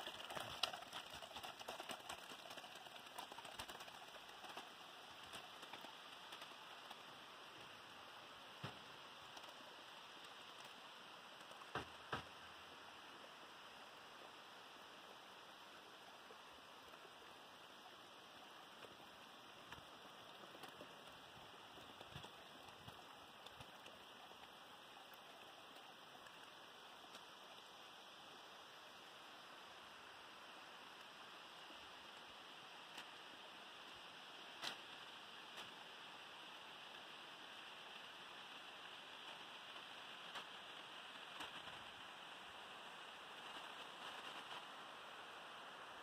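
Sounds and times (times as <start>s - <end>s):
rain: 0.0s - 46.0s
stream running down rock: 0.0s - 46.0s.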